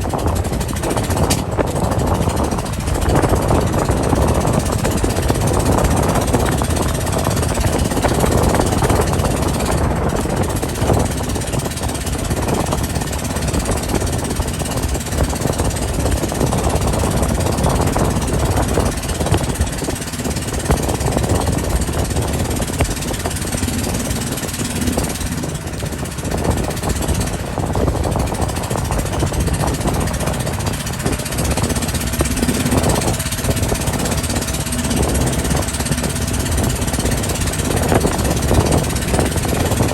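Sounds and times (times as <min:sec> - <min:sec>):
motorboat engine rumble: 0:00.0 - 0:39.9.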